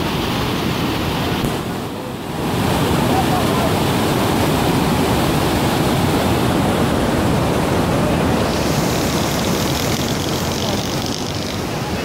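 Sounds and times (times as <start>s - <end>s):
river rushing over boulders: 0.0s - 12.0s.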